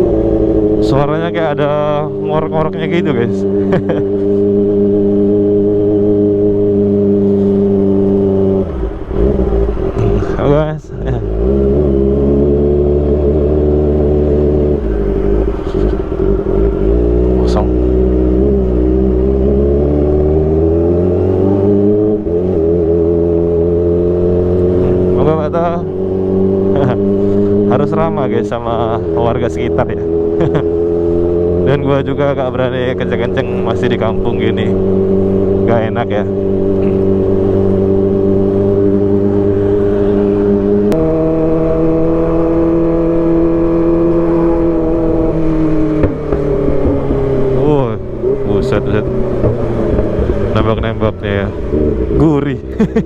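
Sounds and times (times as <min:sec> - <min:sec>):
motorcycle engine at low revs: 0:00.0 - 0:53.0.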